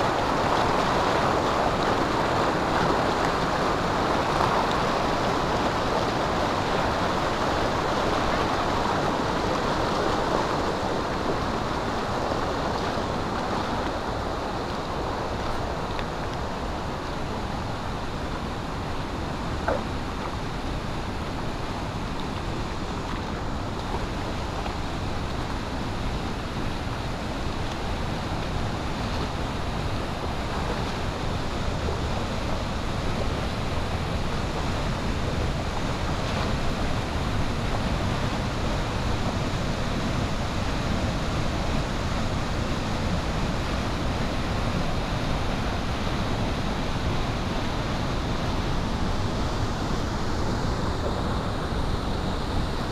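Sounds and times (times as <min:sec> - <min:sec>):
rushing water: 0:00.0 - 0:52.9.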